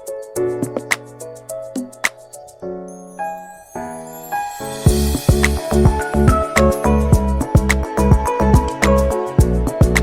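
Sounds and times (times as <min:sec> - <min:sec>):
background music with beat: 0:00.0 - 0:02.7, 0:04.3 - 0:10.0.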